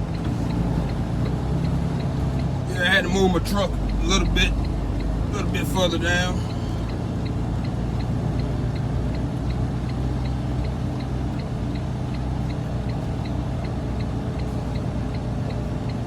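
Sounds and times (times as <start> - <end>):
diesel engine running low: 0.0 - 16.0
turn signal ticking: 0.0 - 16.0.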